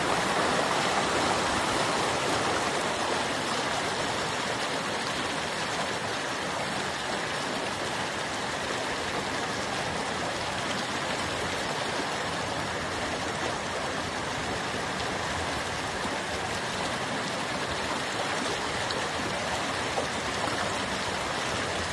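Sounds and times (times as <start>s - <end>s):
running water: 0.0s - 21.9s.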